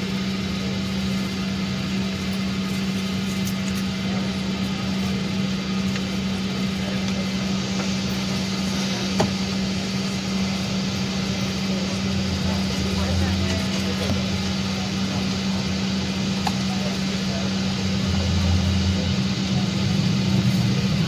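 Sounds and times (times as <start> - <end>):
airliner cabin hum and air rush: 0.0 - 21.0.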